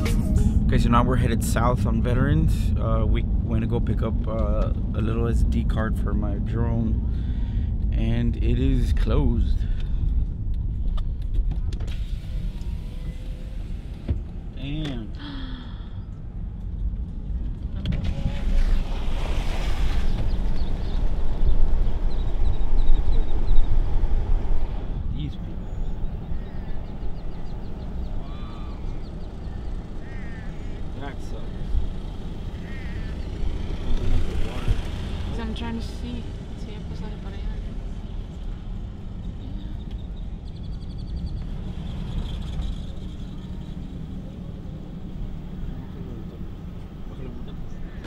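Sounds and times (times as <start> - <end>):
low road rumble: 0.0 - 48.0.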